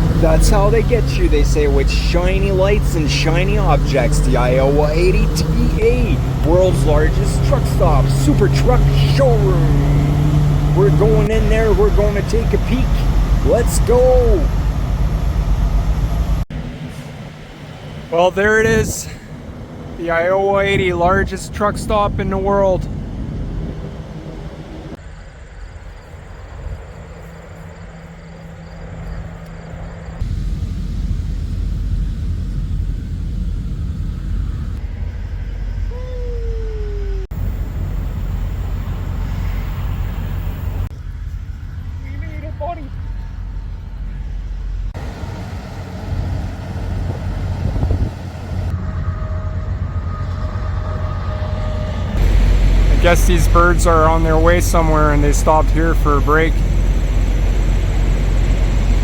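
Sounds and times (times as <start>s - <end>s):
road noise: 0.0s - 59.0s
truck engine hum: 0.0s - 59.0s.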